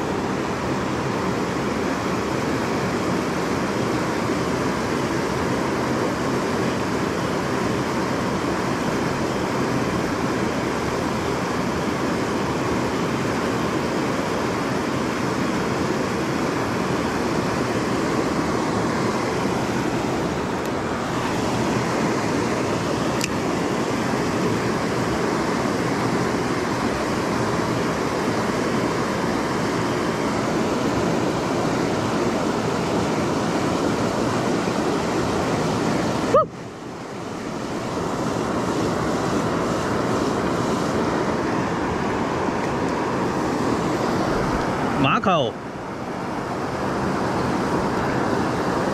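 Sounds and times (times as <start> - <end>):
river water pouring over weir: 0.0 - 48.9.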